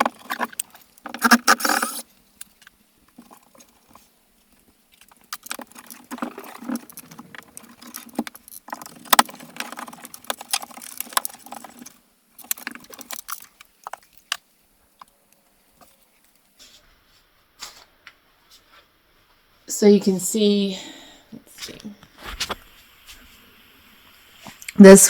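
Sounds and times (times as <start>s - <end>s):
rustling of things being handled: 0.0s - 19.6s, 21.5s - 24.9s.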